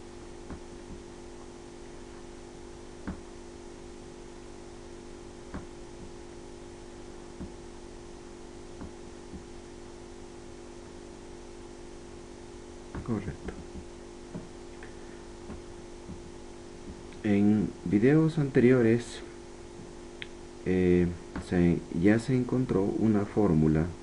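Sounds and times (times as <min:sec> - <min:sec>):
electrical hum and hiss: 0:00.0 - 0:24.0.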